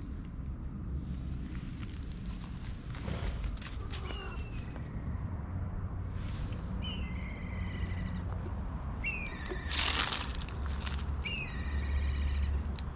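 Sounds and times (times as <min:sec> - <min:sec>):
low rumble of wind or surf: 0:00.0 - 0:11.1.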